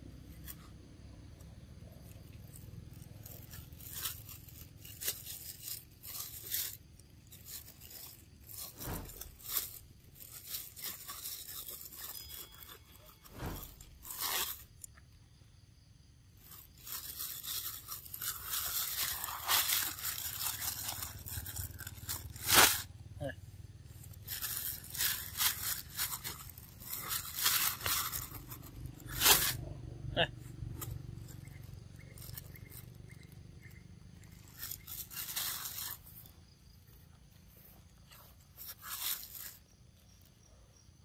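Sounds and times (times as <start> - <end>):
rustling in grass and leaves: 0.0 - 41.0.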